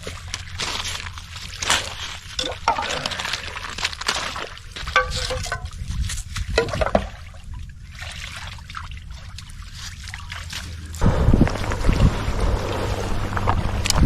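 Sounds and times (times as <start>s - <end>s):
low steady rumble: 0.0s - 14.0s
paddle splashing water: 0.0s - 14.0s
rush of wind and water: 0.0s - 14.0s.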